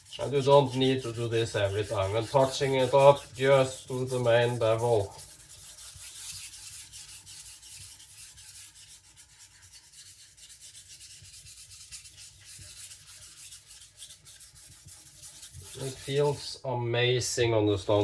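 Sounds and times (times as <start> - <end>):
blade scraping on whetstone: 0.0 - 16.6.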